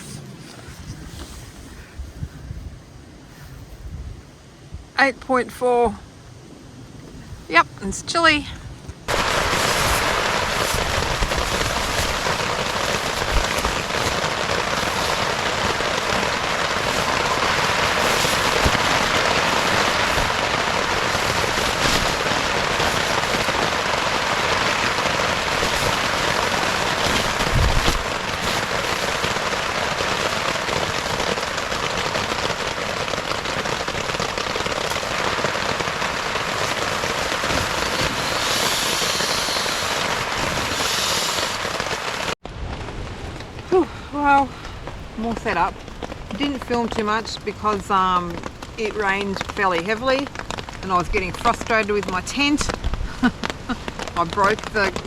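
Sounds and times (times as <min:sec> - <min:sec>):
heavy rain falling: 0:09.0 - 0:55.0.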